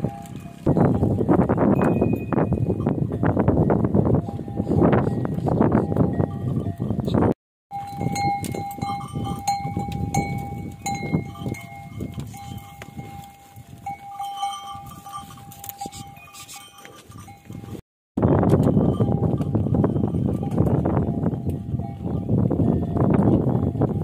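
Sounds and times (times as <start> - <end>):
cow bell clanking: 0.0 - 24.0
outdoor noise: 0.0 - 24.0.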